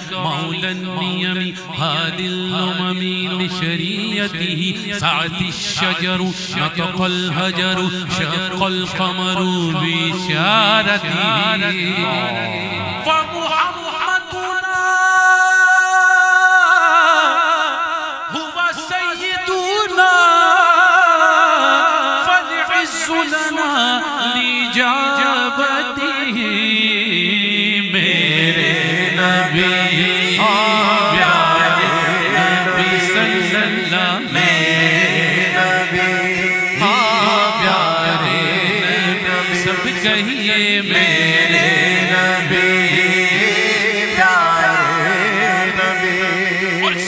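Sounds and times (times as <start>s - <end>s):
man singing: 0.0s - 47.0s.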